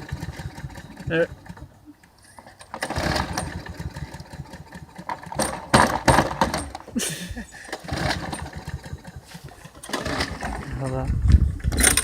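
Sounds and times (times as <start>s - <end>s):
lawn mower engine sputtering: 0.0s - 12.0s.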